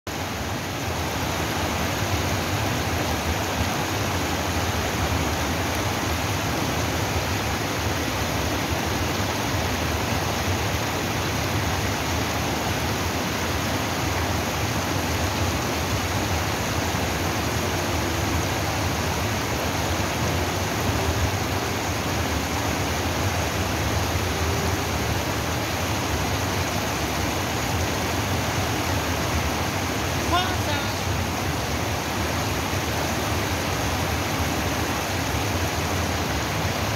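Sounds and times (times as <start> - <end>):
stream water rushing over rocks: 0.1 - 36.9.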